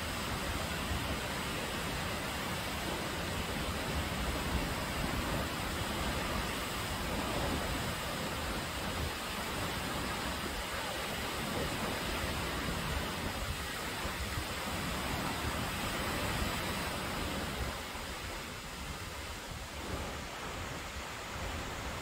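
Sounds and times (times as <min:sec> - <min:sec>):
waterfall roar: 0:00.0 - 0:22.0.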